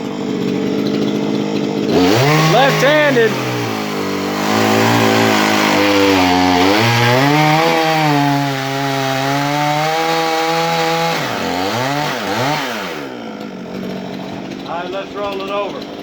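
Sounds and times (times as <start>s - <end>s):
sawmill engine running under load: 0.0s - 16.0s.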